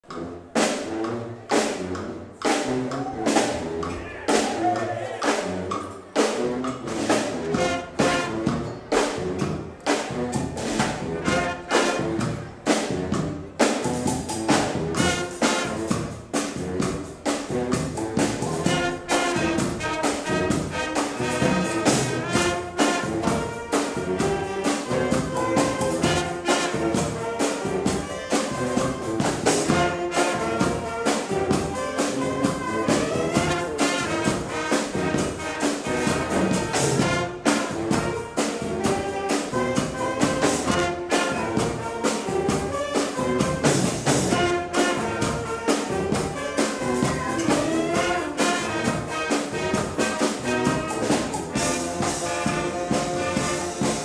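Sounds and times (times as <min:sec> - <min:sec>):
brass band playing a march: 0:00.0 - 0:54.0.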